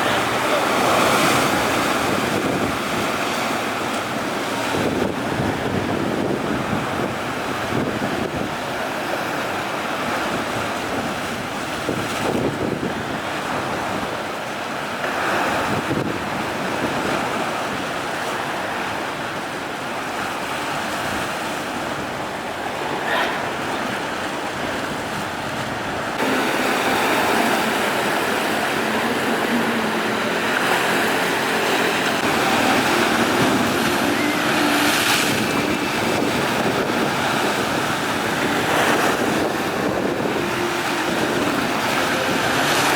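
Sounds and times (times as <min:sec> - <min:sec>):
wind buffeting microphone: 0:00.0 - 0:14.4, 0:15.2 - 0:42.9
sea waves breaking: 0:00.0 - 0:42.9.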